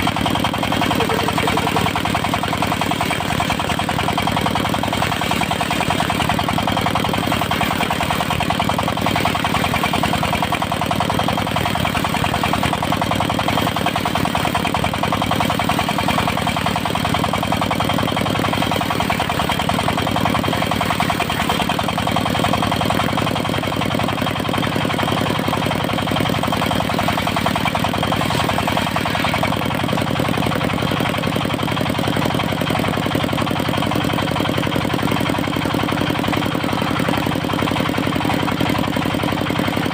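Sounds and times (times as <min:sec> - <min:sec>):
sawmill engine running steadily: 0:00.0 - 0:39.9.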